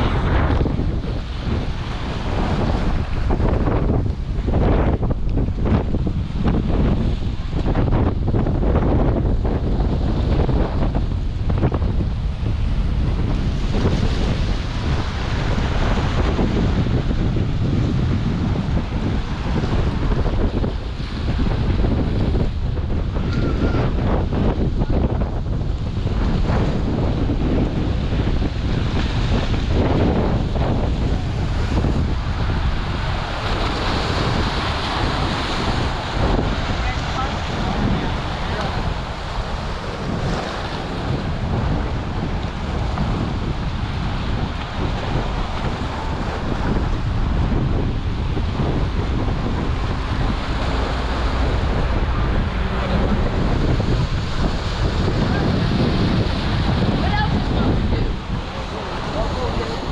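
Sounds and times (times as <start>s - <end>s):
gusty wind buffeting microphone: 0.0s - 59.9s
rough surf: 0.0s - 59.9s
waves breaking: 0.0s - 59.9s.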